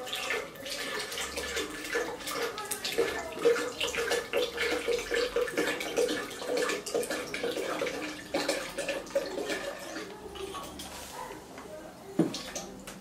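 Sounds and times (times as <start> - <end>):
water pouring and splashing: 0.0 - 11.4, 12.2 - 13.0.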